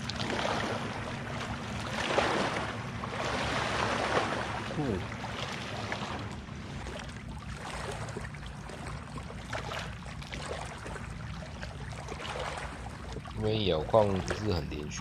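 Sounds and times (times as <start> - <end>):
faint water sounds: 0.0 - 15.0
low motor hum: 0.0 - 15.0.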